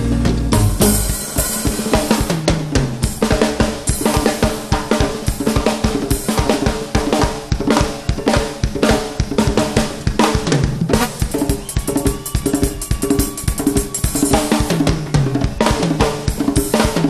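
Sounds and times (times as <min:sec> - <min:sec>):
drum kit playing fast rhythm: 0:00.0 - 0:17.0.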